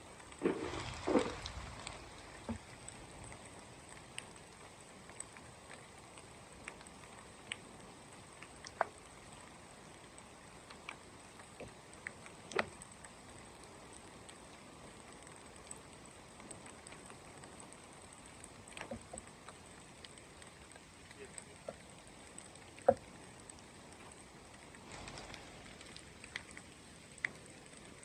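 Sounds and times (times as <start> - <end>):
faint steady rain: 0.0 - 28.0.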